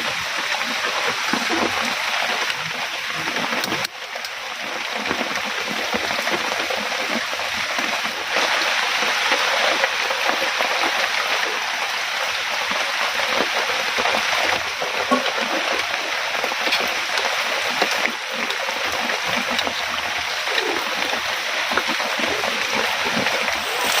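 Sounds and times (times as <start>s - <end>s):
heavy rain falling: 0.0s - 24.0s
running water: 0.0s - 24.0s.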